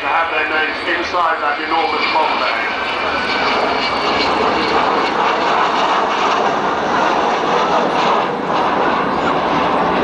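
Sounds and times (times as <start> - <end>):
jet bomber flying past: 0.0 - 10.0.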